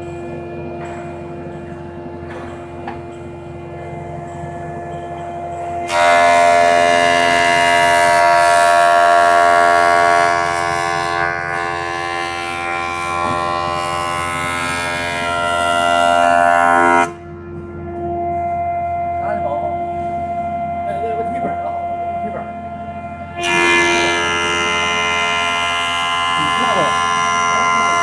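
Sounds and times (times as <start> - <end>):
planer thicknesser running: 3.6 - 18.5, 19.1 - 28.0
whining wood cutting noise: 4.9 - 17.2, 17.8 - 28.0.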